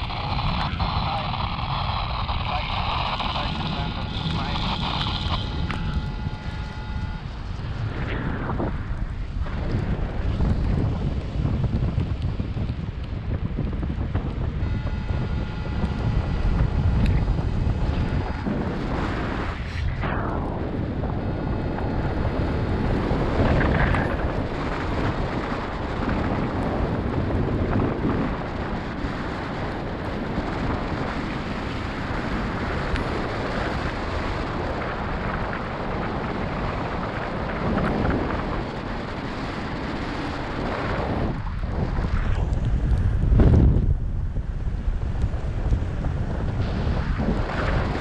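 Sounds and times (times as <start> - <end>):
wind rushing on microphone: 0.0 - 48.0.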